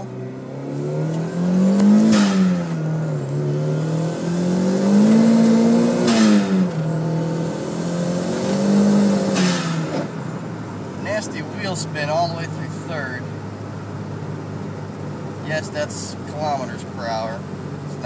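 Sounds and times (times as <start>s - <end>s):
car engine revving at full throttle: 0.0s - 18.0s.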